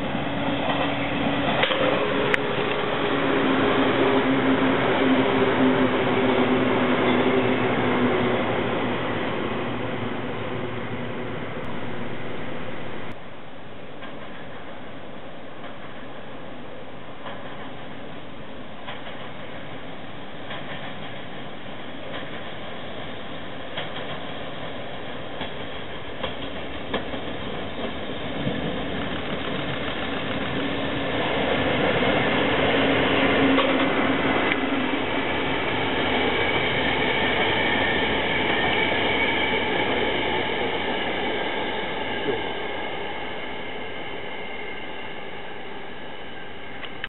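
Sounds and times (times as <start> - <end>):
train rolling on rails: 0.0 - 47.0.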